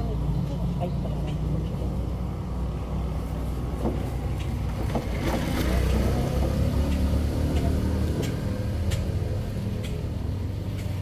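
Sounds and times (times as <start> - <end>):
low engine hum: 0.0 - 11.0
motor scooter engine passing: 0.0 - 11.0.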